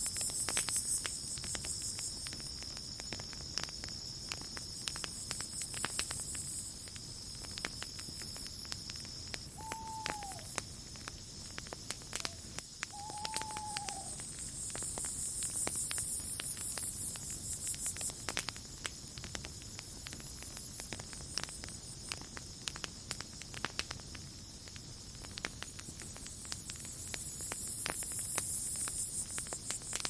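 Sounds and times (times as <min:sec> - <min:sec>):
campfire crackling and popping: 0:00.0 - 0:30.0
crickets and insects trilling: 0:00.0 - 0:30.0.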